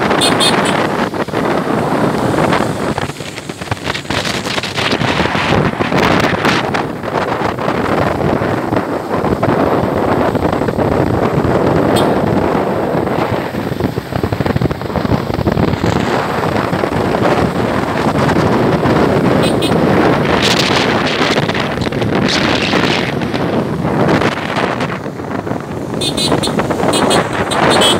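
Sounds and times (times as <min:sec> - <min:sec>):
motorcycle engine: 0:00.0 - 0:27.9
road noise: 0:00.0 - 0:27.9
wind buffeting microphone: 0:00.0 - 0:27.9.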